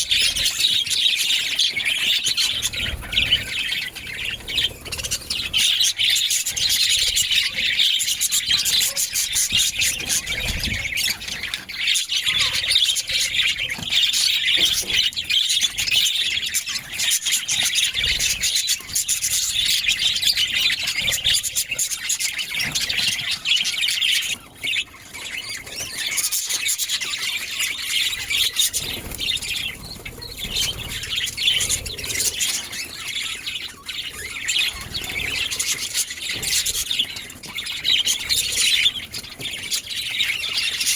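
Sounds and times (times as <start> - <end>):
budgerigar chirps and squawks: 0.0 - 39.1.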